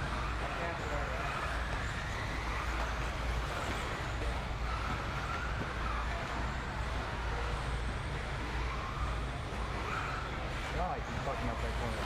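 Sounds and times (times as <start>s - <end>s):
electric motors whining: 0.0s - 12.0s
steady low hum: 0.0s - 12.0s.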